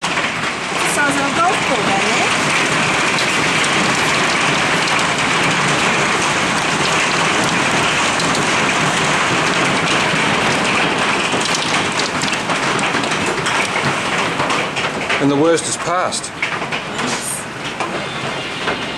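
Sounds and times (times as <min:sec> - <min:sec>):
hail and heavy rain: 0:00.0 - 0:18.9.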